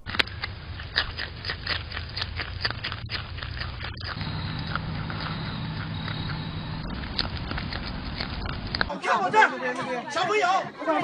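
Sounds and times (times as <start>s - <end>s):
groundhog chewing crunchily: 0.0s - 8.9s
steady low hum: 0.0s - 8.9s.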